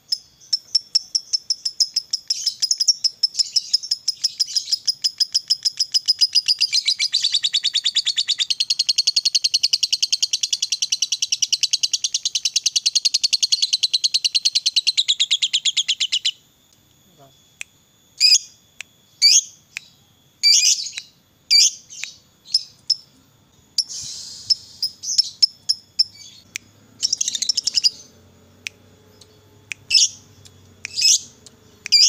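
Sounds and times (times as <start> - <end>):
lovebird chattering trill: 0.1 - 16.4, 19.2 - 23.1, 23.8 - 32.0.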